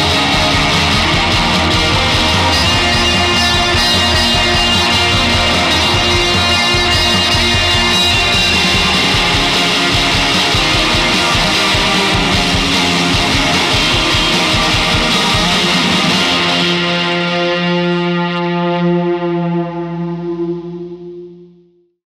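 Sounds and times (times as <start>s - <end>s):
distorted electric guitar riff: 0.0s - 21.6s.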